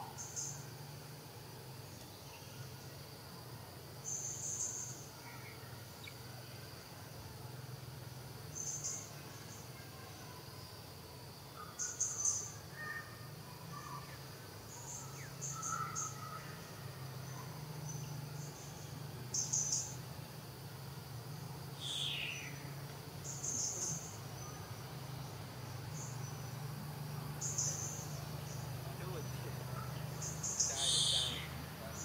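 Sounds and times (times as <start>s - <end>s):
insects chirping: 0.0s - 32.0s
steady low hum: 0.0s - 32.0s.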